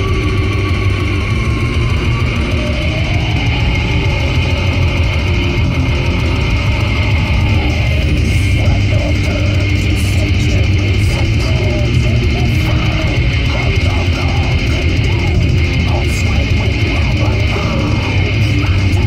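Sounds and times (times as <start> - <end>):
drums: 0.0 - 19.0
electric guitar: 0.0 - 19.0
heavy rock music: 0.0 - 19.0.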